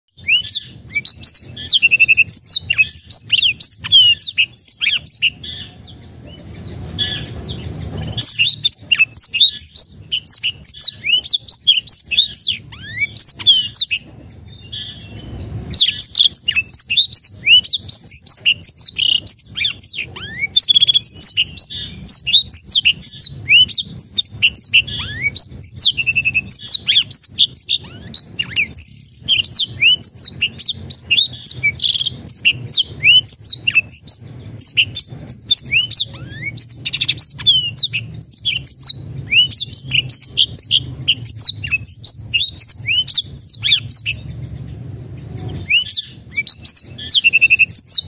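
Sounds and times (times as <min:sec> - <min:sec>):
canary singing: 0:00.0 - 0:48.0.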